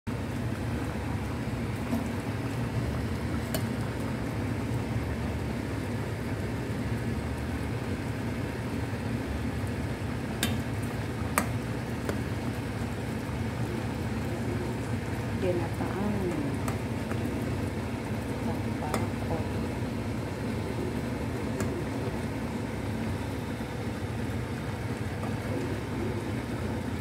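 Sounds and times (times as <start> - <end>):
liquid bubbling in a pan: 0.1 - 27.0.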